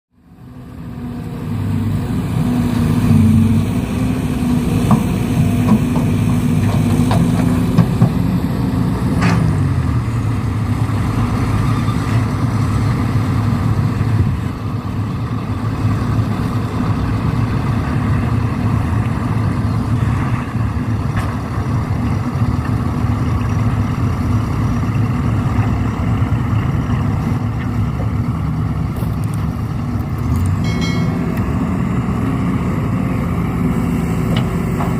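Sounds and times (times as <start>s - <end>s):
truck engine running: 0.2s - 34.9s.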